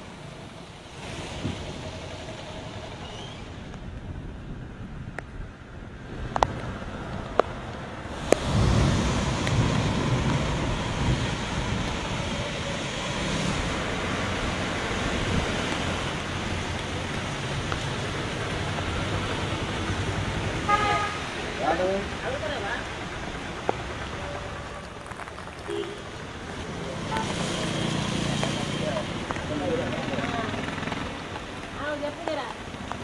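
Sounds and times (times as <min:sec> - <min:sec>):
steady rain with wind: 0:00.0 - 0:33.0.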